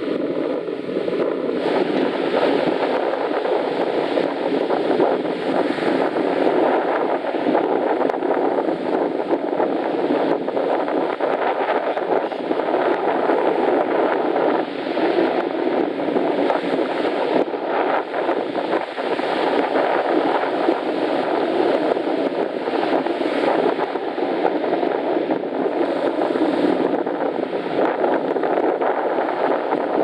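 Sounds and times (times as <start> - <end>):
sea surf rushing: 0.0 - 30.0
wind on microphone: 0.0 - 30.0.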